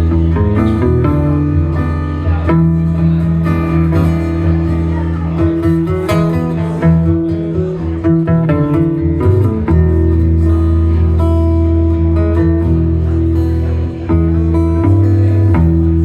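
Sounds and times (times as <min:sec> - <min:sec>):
acoustic guitar strumming: 0:00.0 - 0:16.0
low bass notes: 0:00.0 - 0:16.0.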